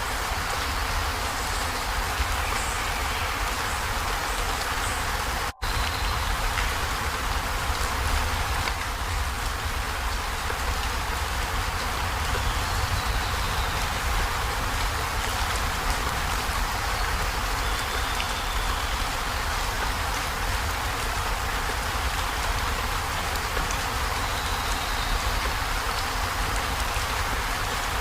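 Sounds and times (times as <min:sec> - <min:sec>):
heavy rain on a metal roof: 0:00.0 - 0:28.0.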